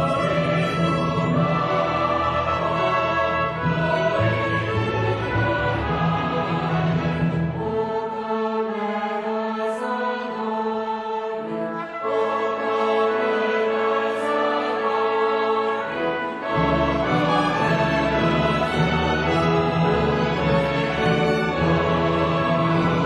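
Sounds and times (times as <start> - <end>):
choir singing: 0.0 - 23.0
string orchestra: 0.0 - 23.0.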